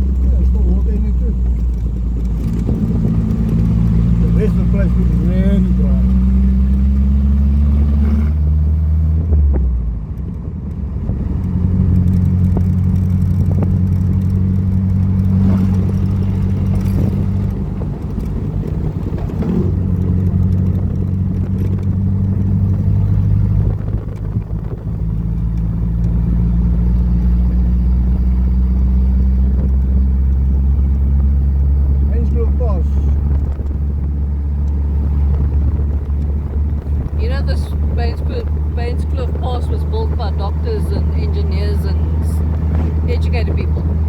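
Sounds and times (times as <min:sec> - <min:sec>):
car engine droning: 0:00.0 - 0:44.0.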